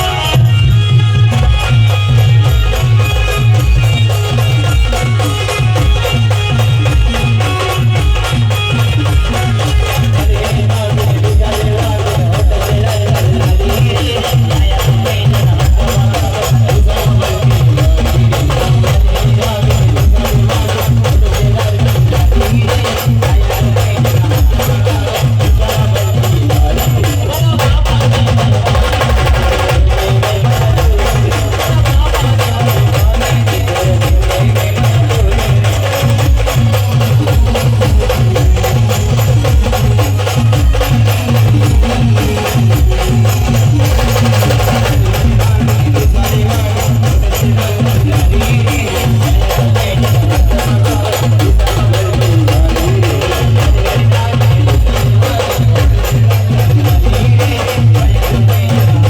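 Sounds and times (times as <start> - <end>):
band playing dance music: 0.0 - 59.0.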